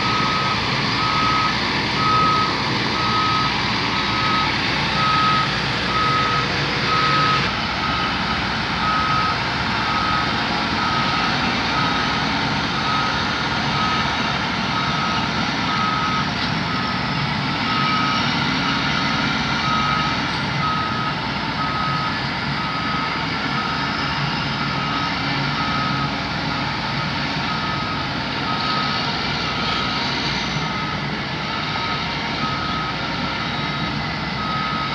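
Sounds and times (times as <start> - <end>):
travel alarm beeping: 0.0 - 14.2, 14.8 - 18.3, 19.6 - 29.7, 30.6 - 34.9
drilling rig engine running: 0.0 - 34.9.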